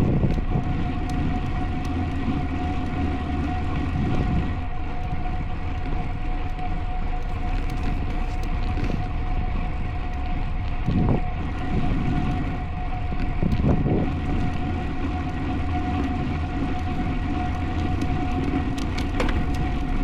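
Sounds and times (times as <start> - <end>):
road rumble: 0.0 - 20.0
steady high hum: 0.0 - 20.0
wind noise on microphone: 0.0 - 20.0.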